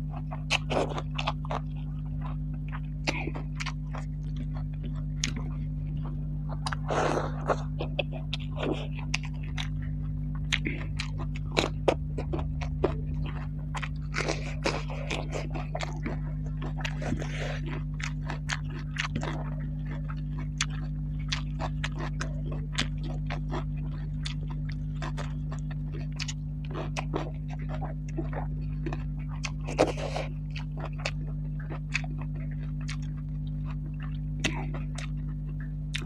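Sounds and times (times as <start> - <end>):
steady low hum: 0.0 - 36.0
wet chewing and mouth clicks: 0.0 - 36.0.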